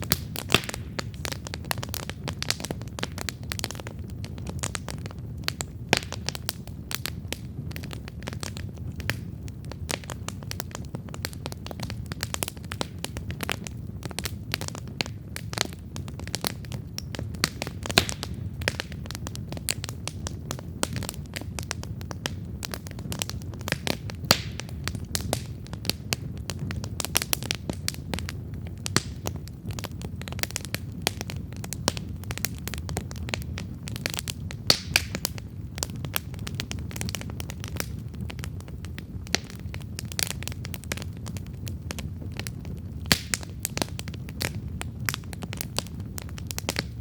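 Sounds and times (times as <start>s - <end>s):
campfire crackling: 0.0s - 47.0s
low rumble of flame: 0.0s - 47.0s.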